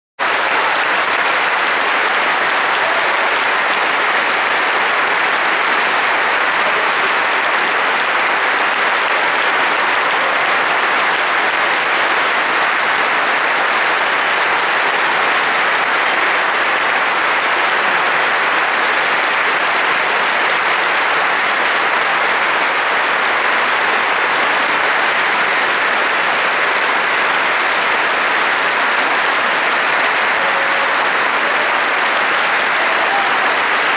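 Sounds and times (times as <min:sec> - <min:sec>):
audience applauding: 0:00.2 - 0:33.9.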